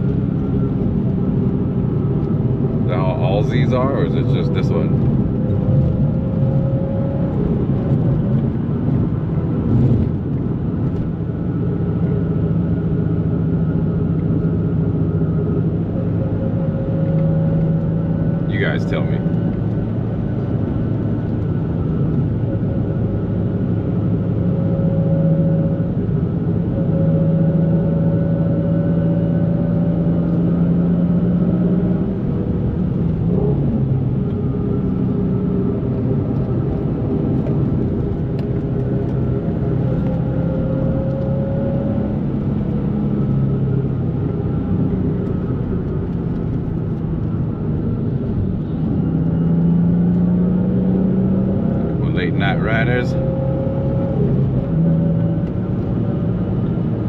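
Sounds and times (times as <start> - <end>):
car engine cruising drone: 0.0 - 57.0.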